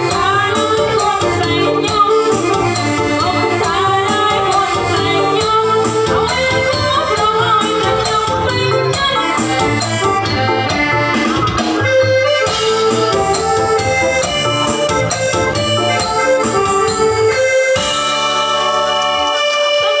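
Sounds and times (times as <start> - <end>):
dance music with organ-like keyboard: 0.0 - 20.0.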